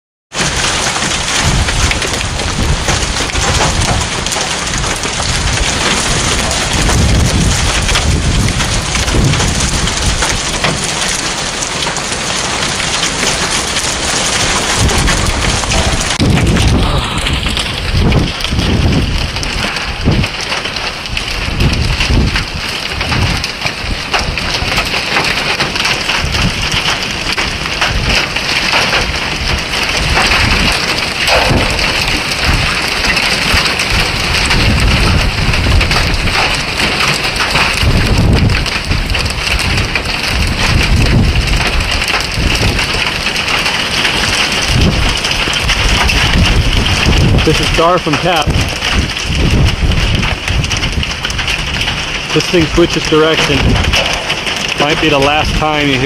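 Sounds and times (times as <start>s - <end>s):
heavy rain pouring: 0.3s - 56.0s
wind buffeting microphone: 0.4s - 56.0s.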